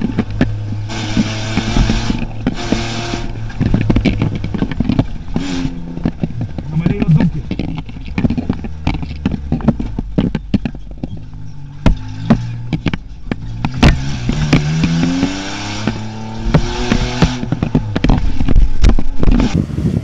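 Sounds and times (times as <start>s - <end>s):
car body knocking and rattling: 0.0s - 19.6s
car engine from inside cab: 0.0s - 20.0s.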